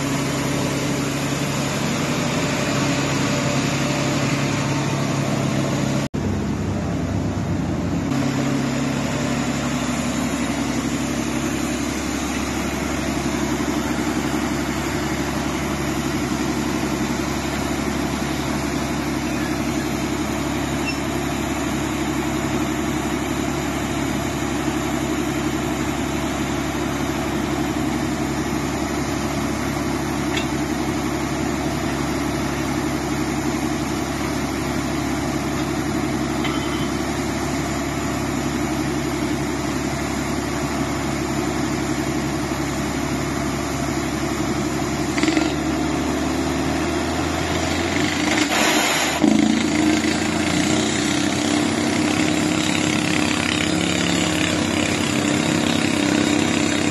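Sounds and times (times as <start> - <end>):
diesel engine idling: 0.0 - 48.4, 49.2 - 56.9.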